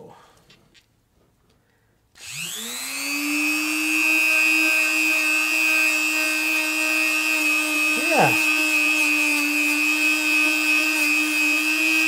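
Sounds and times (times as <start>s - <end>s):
rotary tool motor whine: 2.2s - 12.0s.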